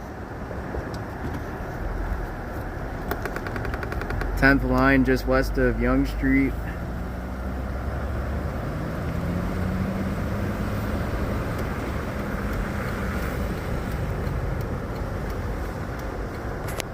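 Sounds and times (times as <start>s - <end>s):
car engine hum: 0.0s - 16.9s
road and tyre noise: 0.0s - 16.9s.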